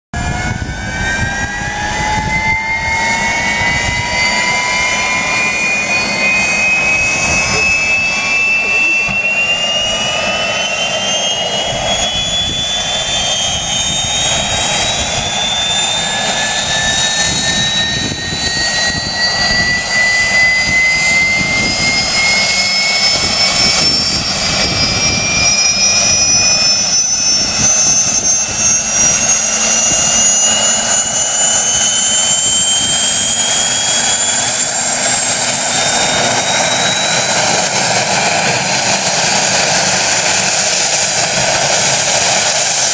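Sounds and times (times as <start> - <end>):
helicopter turbine whine: 0.1 - 42.9.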